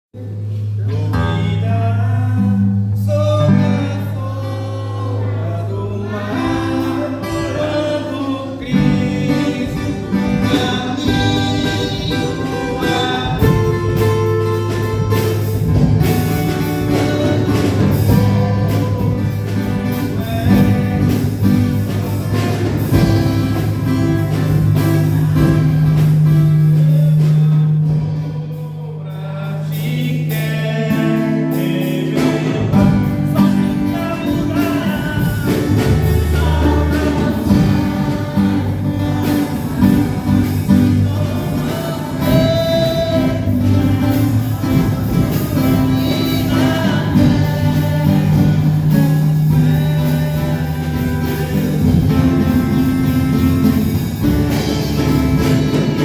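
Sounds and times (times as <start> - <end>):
gospel hymn singing: 0.2 - 56.0
live band accompaniment: 0.2 - 56.0.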